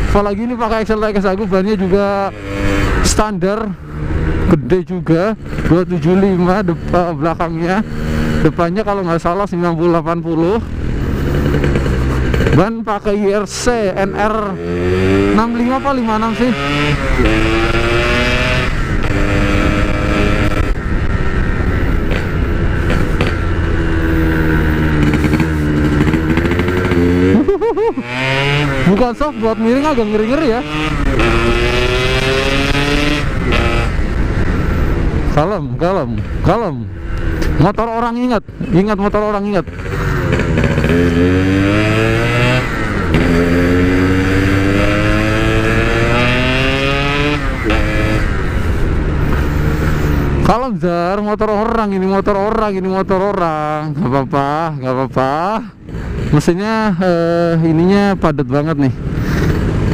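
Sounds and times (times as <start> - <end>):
two-stroke motorcycle engine: 0.0 - 59.9.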